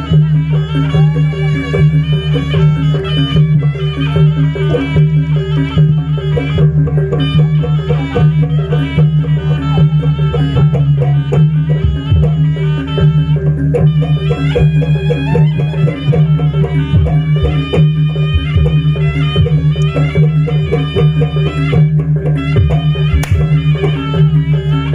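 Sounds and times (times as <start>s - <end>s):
drums: 0.0s - 24.9s
reedy wind melody: 0.0s - 24.9s.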